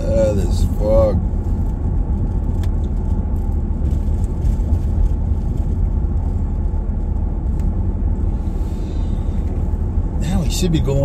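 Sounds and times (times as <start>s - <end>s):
vehicle driving on road: 0.0s - 11.0s.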